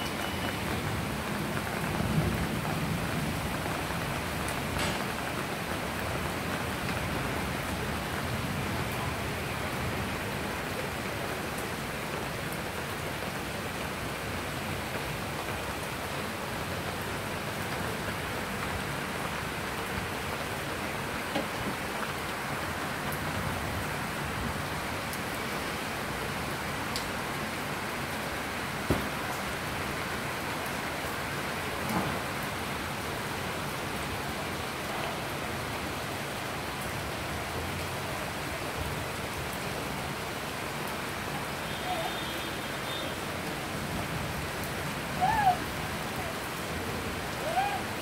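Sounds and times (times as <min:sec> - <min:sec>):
rain on wet tiles: 0:00.0 - 0:48.0.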